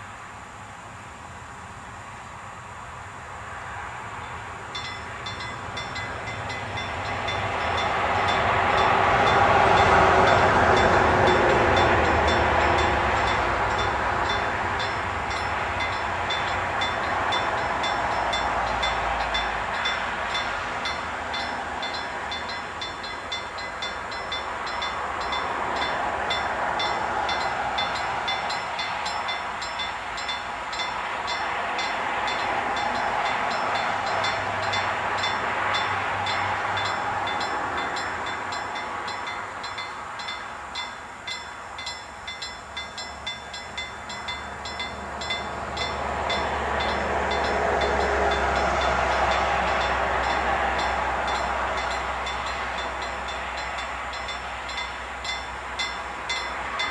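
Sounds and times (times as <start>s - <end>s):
freight train rumbling on rails: 0.0s - 56.9s
train wheel clatter: 4.2s - 56.9s.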